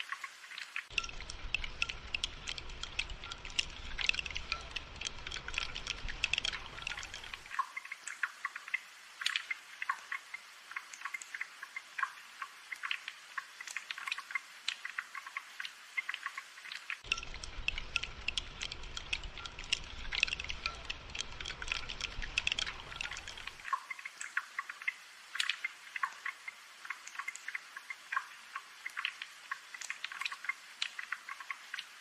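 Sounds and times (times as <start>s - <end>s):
rain dripping and pattering: 0.0s - 32.0s.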